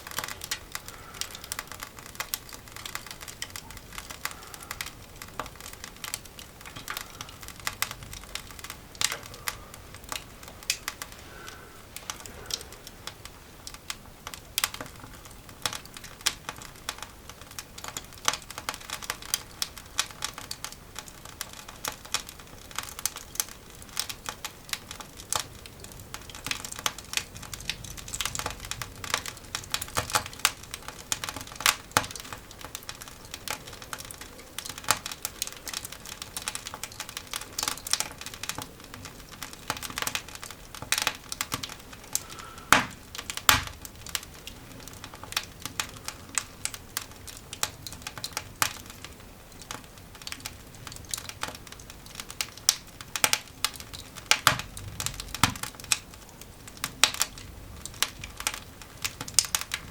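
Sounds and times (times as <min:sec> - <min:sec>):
coal fire crackling and popping: 0:00.0 - 0:59.9.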